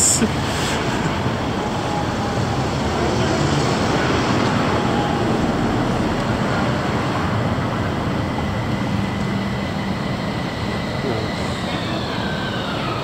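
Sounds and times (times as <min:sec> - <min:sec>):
high whine: 0:00.0 - 0:13.0
tram wheels rumbling on track: 0:00.0 - 0:13.0.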